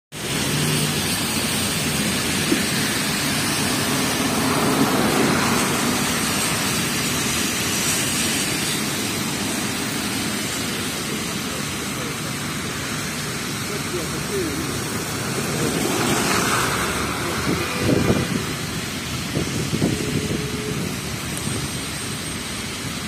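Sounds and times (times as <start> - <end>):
car passing close: 0.1 - 21.3
car engines running: 0.1 - 23.0
tyres hissing on wet snow: 0.1 - 23.0.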